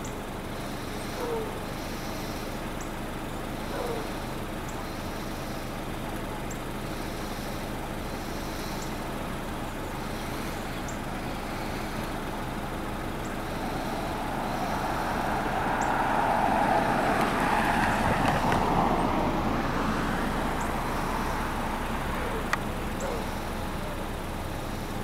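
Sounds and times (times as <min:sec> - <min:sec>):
traffic hum: 0:00.0 - 0:25.0
vehicle passing: 0:03.6 - 0:25.0.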